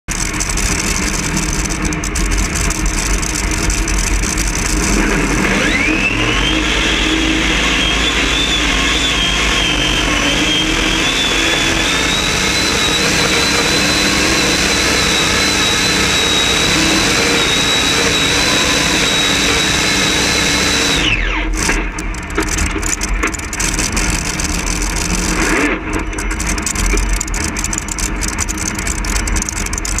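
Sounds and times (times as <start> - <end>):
tractor engine whining: 0.1 - 30.0.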